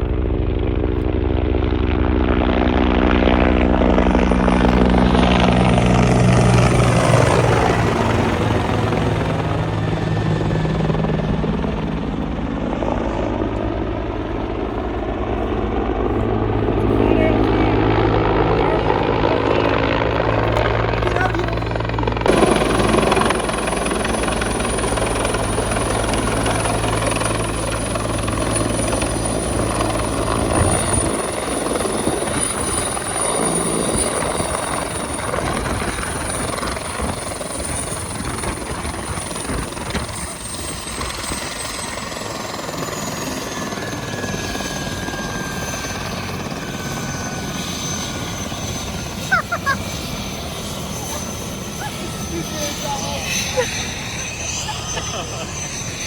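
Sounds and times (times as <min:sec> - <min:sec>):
helicopter rotor beat: 0:00.0 - 0:56.0
turbine whine winding down: 0:00.0 - 0:56.0.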